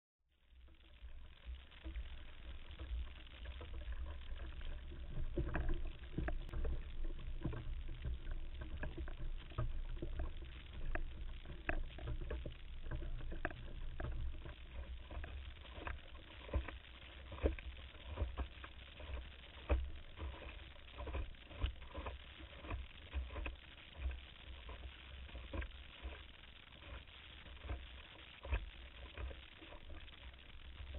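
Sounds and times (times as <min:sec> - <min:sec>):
water splashing against hull: 0:00.5 - 0:30.9.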